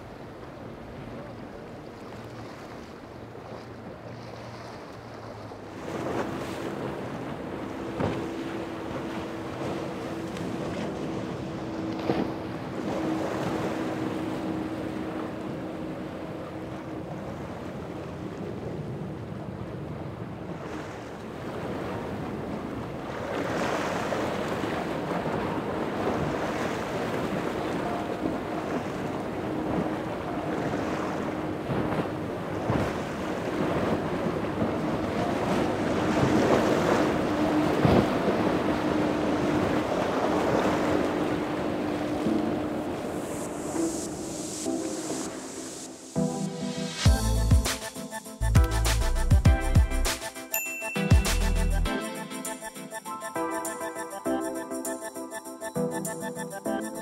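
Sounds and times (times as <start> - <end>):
powerboat engines droning: 0.0 - 46.2
waves breaking: 0.0 - 57.0.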